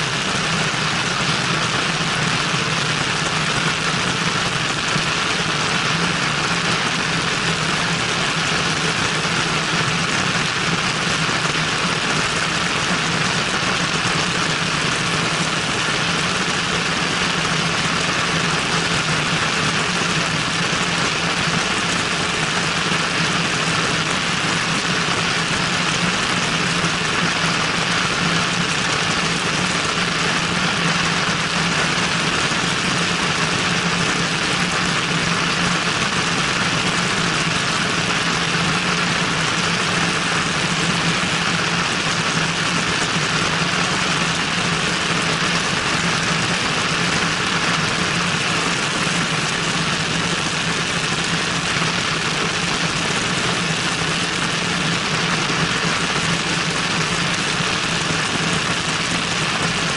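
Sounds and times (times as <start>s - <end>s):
airplane engine and propeller: 0.0s - 59.9s.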